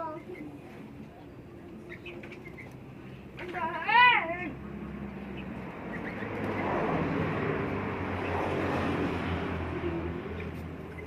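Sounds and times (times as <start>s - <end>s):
motor vehicle passing by: 0.6s - 11.0s.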